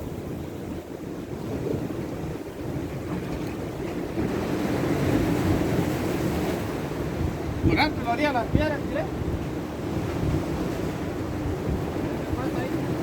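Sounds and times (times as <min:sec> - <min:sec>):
ocean surf washing ashore: 0:00.0 - 0:13.0
wind buffeting microphone: 0:00.0 - 0:13.0.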